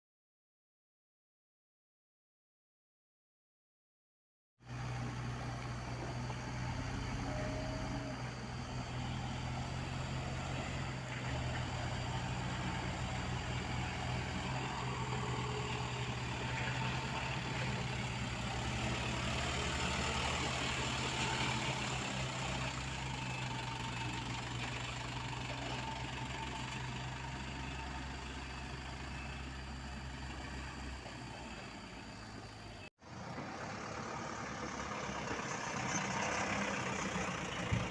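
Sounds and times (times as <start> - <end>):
diesel engine idling: 4.6 - 37.9.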